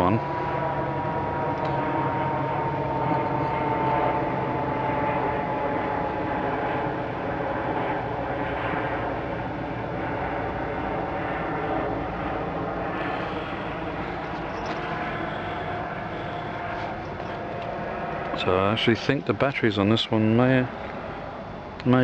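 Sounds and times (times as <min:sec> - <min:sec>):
engine drone: 0:00.0 - 0:22.0
high whine falling in pitch: 0:00.0 - 0:22.0.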